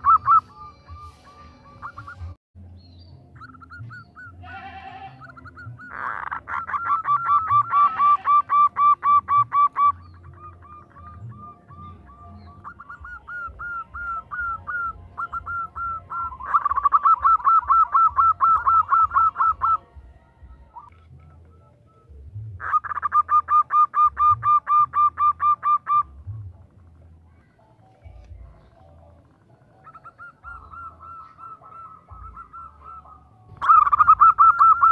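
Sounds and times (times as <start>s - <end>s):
dove cooing: 0.0s - 2.4s, 5.2s - 26.9s, 27.8s - 34.9s.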